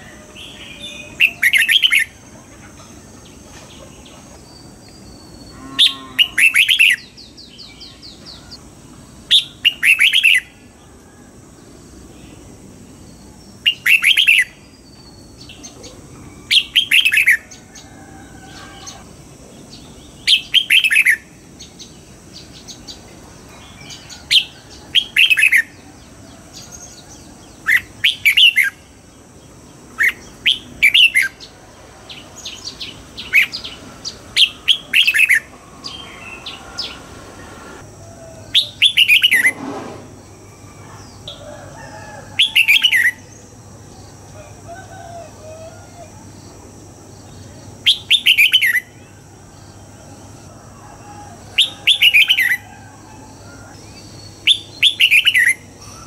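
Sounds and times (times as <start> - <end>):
bird singing: 0.0 - 39.6, 40.2 - 56.0.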